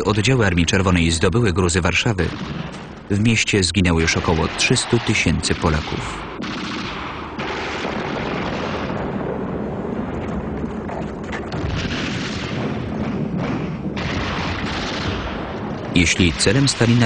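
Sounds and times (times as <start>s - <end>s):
sharp cracks: 0.0s - 1.2s, 2.1s - 3.2s, 3.9s - 17.0s
gunfire and explosions: 0.0s - 17.0s.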